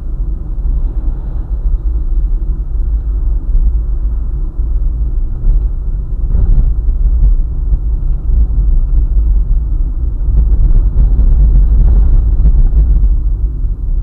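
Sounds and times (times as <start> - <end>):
car driving on highway: 0.0 - 14.0.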